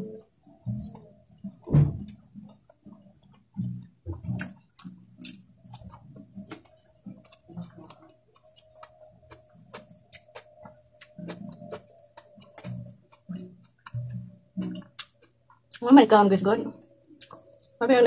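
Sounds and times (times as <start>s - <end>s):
soft chewing thuds: 0.0s - 15.8s
faint steady hum: 0.0s - 18.0s.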